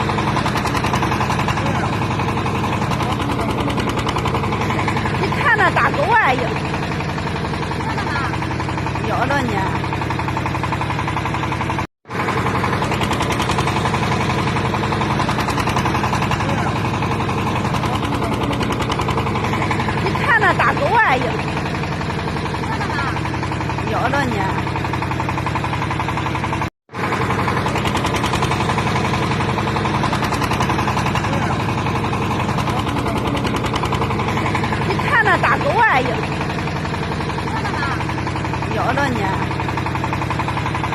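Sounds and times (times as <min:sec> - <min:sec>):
backhoe engine knocking: 0:00.0 - 0:40.9.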